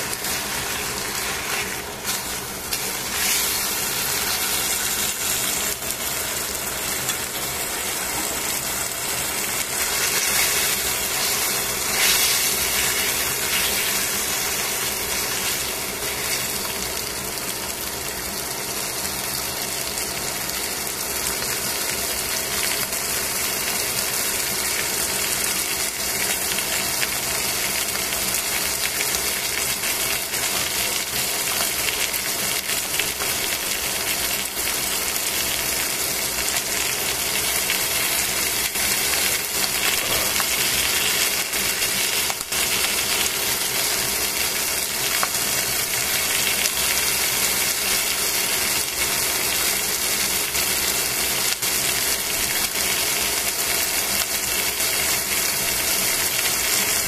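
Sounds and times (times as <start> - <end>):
chicken sizzling in a frying pan: 0.0 - 57.0.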